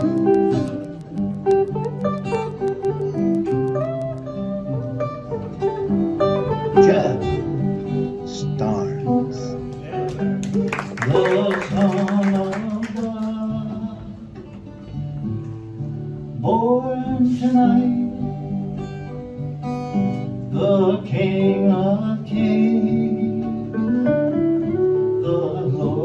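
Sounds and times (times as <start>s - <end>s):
electric guitar picking melody: 0.0s - 11.9s, 13.0s - 26.0s
acoustic guitar chords: 0.0s - 26.0s.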